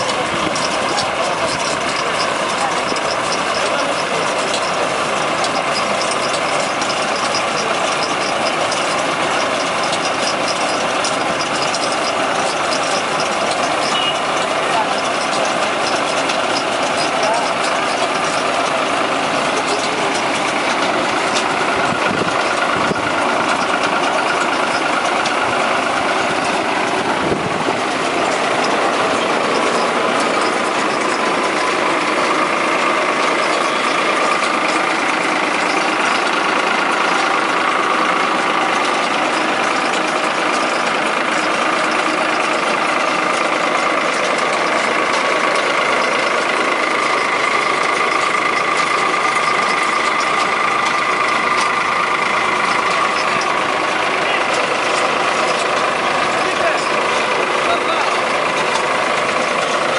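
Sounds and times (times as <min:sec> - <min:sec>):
straw baler running: 0:00.0 - 0:59.9
tractor engine: 0:00.0 - 0:59.9.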